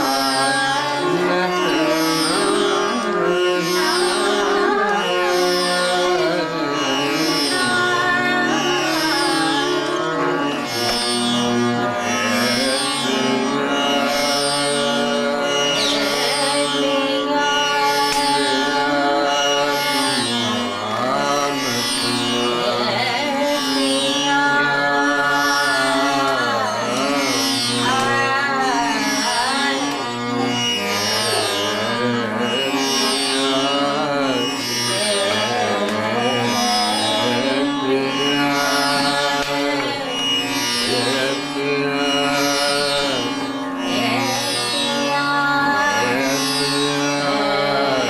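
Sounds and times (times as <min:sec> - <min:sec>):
person singing classical melody: 0:00.0 - 0:48.0
tanpura drone: 0:00.0 - 0:48.0.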